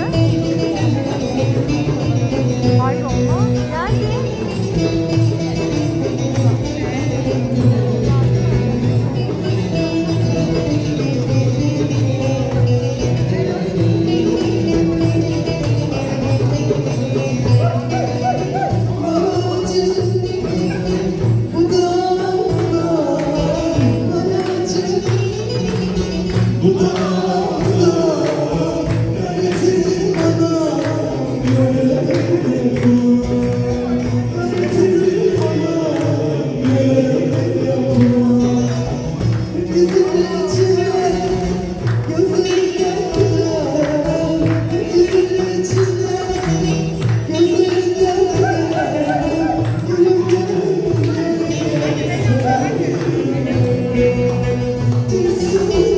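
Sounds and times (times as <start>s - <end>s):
goblet drum: 0.0s - 55.9s
jingling frame drum beat: 0.0s - 55.9s
plucked lute: 0.0s - 55.9s.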